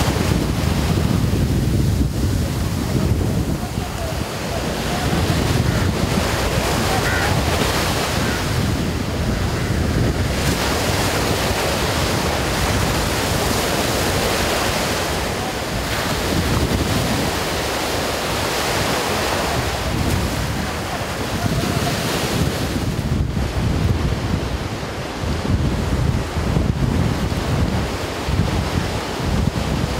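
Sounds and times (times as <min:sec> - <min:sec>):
waves breaking: 0:00.0 - 0:29.9
wind buffeting microphone: 0:00.0 - 0:29.9.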